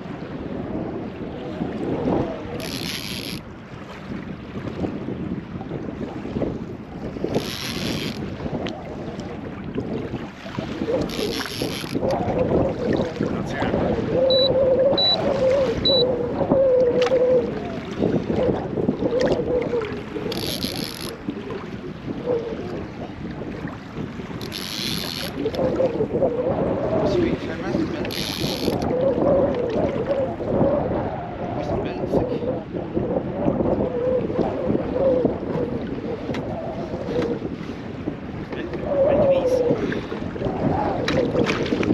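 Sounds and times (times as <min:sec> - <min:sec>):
water lapping against kayak hull: 0:00.0 - 0:41.9
wind buffeting microphone: 0:00.0 - 0:41.9.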